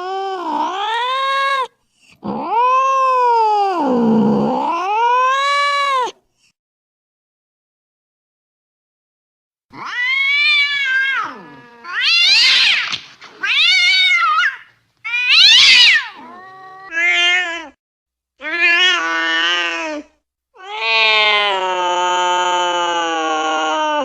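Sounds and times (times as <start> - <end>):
cat yowling angrily: 0.0 - 6.2, 9.7 - 17.8, 18.4 - 24.0.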